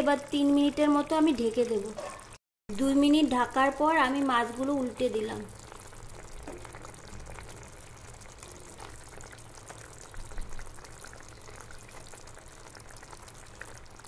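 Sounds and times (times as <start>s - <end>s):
gravy bubbling and sizzling in pan: 0.0s - 14.0s.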